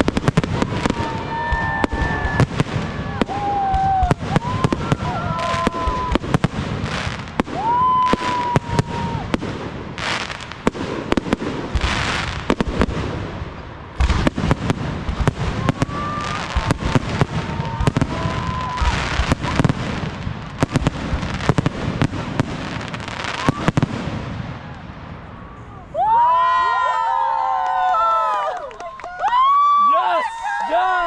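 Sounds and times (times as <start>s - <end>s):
hiss of rising fireworks: 0.0s - 25.6s
firework bangs and crackles: 0.0s - 26.3s
whistling fireworks: 0.0s - 26.3s.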